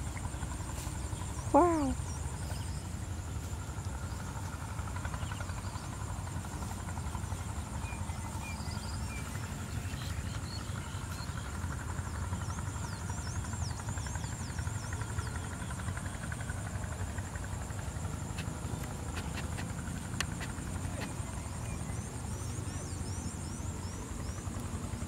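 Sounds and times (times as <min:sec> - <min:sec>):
constant high buzz: 0:00.0 - 0:25.0.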